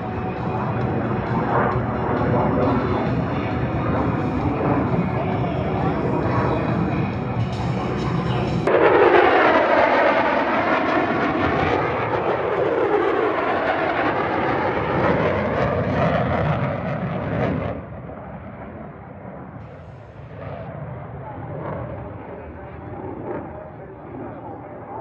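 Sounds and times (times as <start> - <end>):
fighter jet roar flying past: 0.0 - 25.0.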